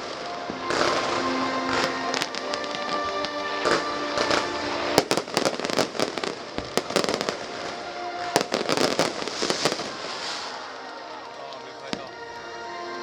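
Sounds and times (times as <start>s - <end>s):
faint background music: 0.0s - 13.0s
fireworks bursting and crackling: 0.0s - 13.0s.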